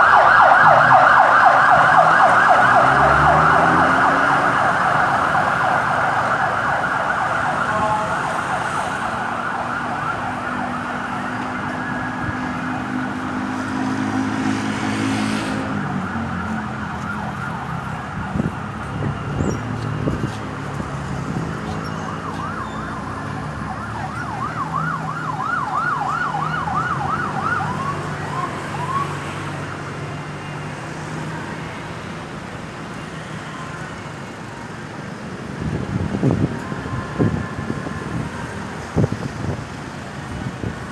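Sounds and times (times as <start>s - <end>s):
emergency siren yelping: 0.0s - 32.1s, 33.0s - 40.8s
traffic and engine noise: 0.0s - 40.9s.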